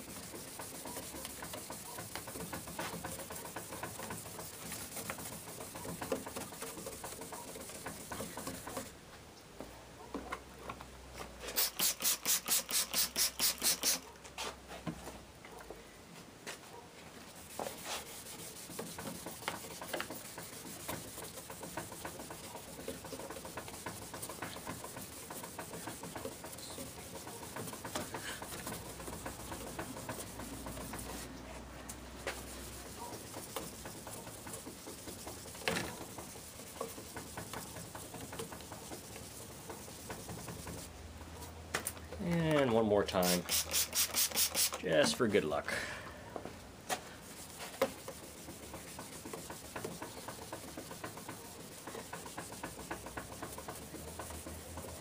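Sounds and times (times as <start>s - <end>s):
sandpaper rubbing on plastic: 0.0s - 8.9s, 11.4s - 14.6s, 17.2s - 41.0s, 43.1s - 44.9s, 47.2s - 55.0s.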